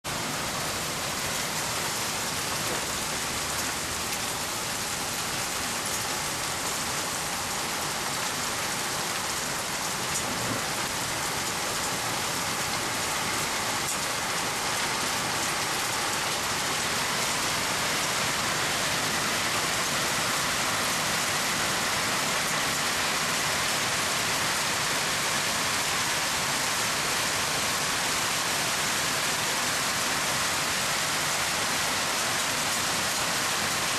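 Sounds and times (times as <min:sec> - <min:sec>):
rain on surfaces: 0:00.0 - 0:33.9.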